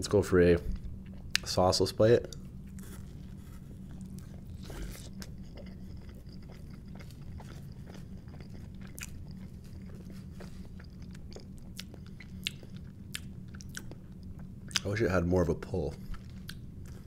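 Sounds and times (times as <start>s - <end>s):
steady low hum: 0.0s - 17.0s
person chewing crisp pizza: 0.6s - 17.0s.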